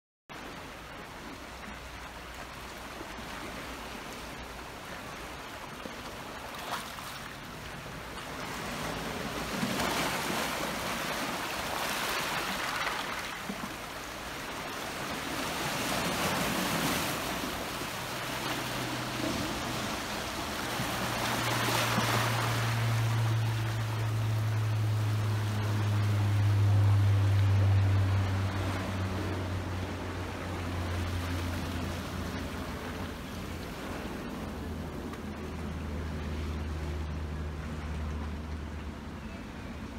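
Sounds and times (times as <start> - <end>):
waves washing over rocks: 0.4 - 39.2.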